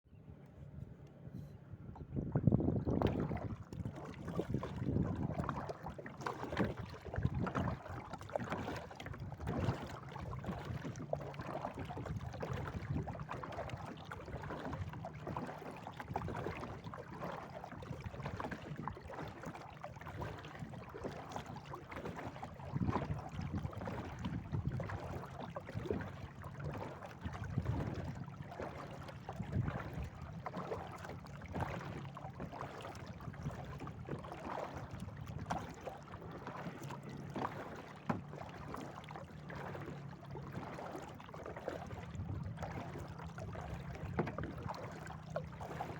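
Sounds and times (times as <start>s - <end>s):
wind rumbling on microphone: 0.8s - 38.7s, 41.7s - 45.9s
paddle splashing in water: 1.4s - 45.9s.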